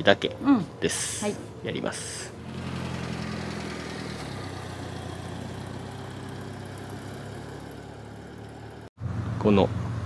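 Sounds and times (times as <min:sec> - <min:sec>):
small van engine running: 0:01.0 - 0:10.0.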